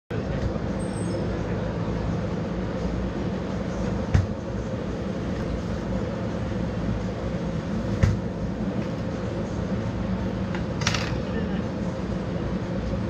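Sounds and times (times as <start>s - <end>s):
low background rumble: 0.1s - 13.0s.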